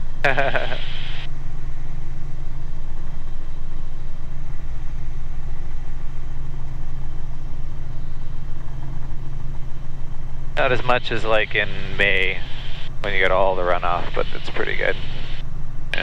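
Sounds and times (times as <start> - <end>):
helicopter rotor and engine drone: 0.0 - 16.0.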